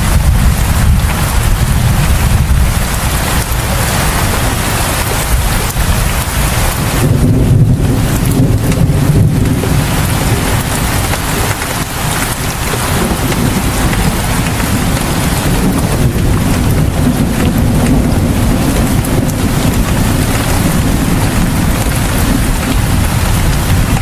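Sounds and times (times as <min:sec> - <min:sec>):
deep rumble: 0:00.0 - 0:24.0
rain pouring: 0:00.0 - 0:24.0.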